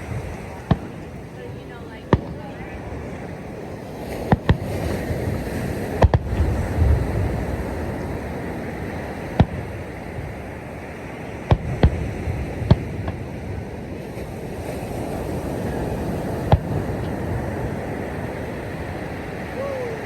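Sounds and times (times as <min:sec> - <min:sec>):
distant fireworks bangs: 0:00.0 - 0:19.6
surf rushing: 0:00.0 - 0:20.0.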